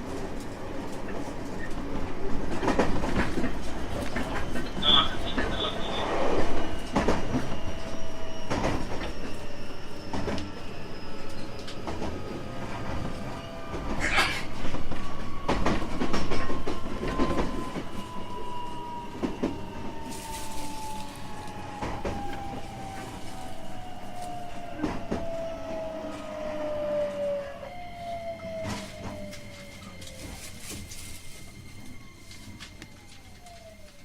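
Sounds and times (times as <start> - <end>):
wheel-on-rail noise: 0.0 - 34.0
electric train motor whine: 4.0 - 34.0.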